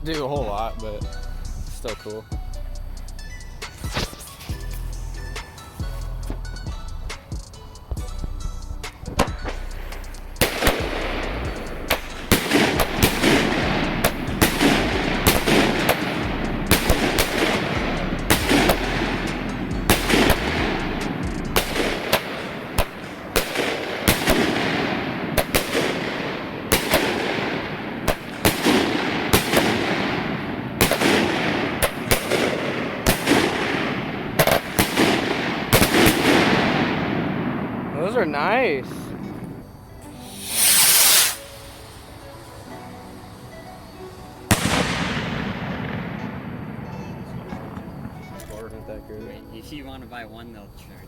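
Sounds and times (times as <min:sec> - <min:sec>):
firecrackers banging: 0:00.0 - 0:48.6
steady noisy hiss: 0:00.0 - 0:51.0.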